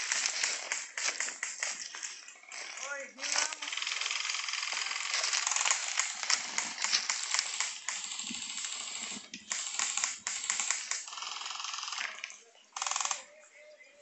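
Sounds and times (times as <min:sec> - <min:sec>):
airsoft rifles firing full auto: 0:00.0 - 0:13.2.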